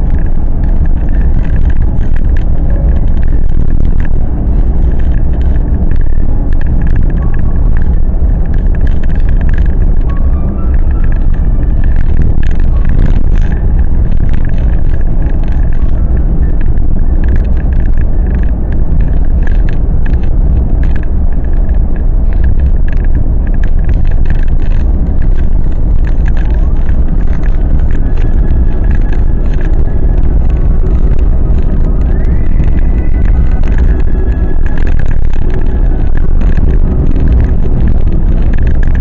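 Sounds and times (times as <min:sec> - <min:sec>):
vehicle engine and tyre rumble: 0:00.0 - 0:39.0.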